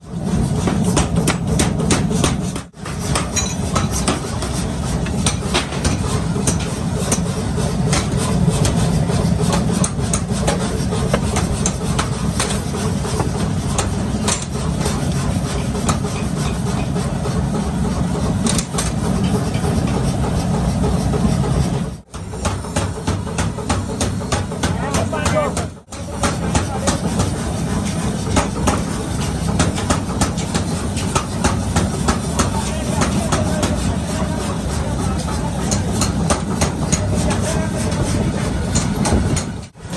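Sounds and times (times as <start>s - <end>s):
hammer strikes on metal: 0.5s - 17.1s, 22.1s - 34.8s, 35.6s - 39.8s.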